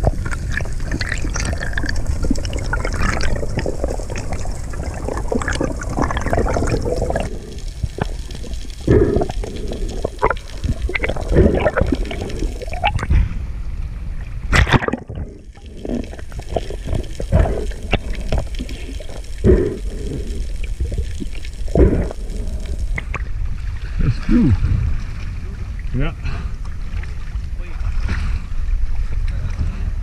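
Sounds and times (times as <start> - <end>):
bubbles surging: 0.0 - 13.1, 14.5 - 26.0
water splashing: 0.0 - 13.4, 14.2 - 28.4
water sloshing and gurgling: 0.0 - 30.0.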